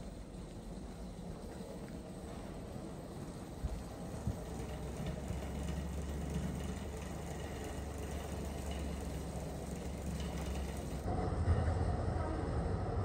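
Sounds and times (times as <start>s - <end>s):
luggage trolley rattling on tiles: 0.0s - 11.1s
low hum: 0.0s - 13.0s.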